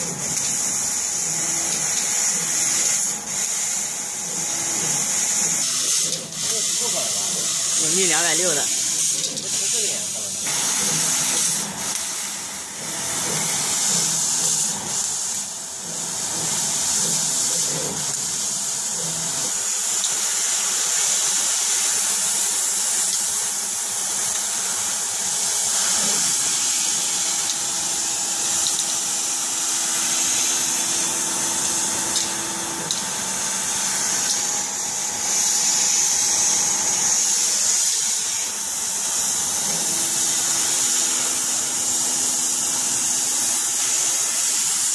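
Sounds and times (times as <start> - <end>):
hiss of air: 0.0 - 44.9.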